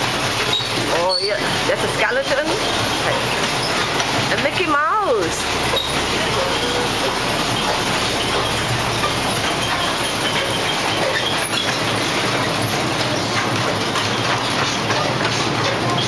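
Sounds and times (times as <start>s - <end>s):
miniature train wheels rumbling: 0.0s - 16.0s.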